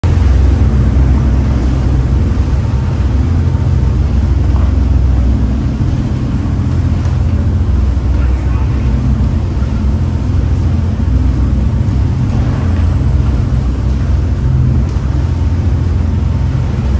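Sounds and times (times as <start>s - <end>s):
diesel engines rumbling: 0.0s - 16.9s
water rushing past hull: 0.0s - 16.9s
wind: 0.0s - 16.9s.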